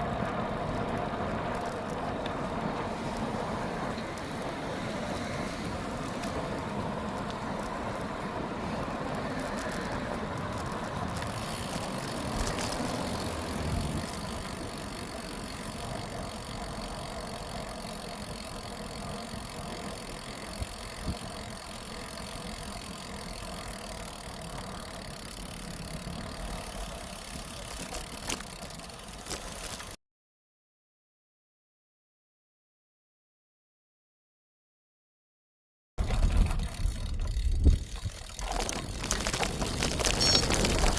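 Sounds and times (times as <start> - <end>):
bicycle road and wind noise: 0.0 - 30.0, 36.0 - 40.9.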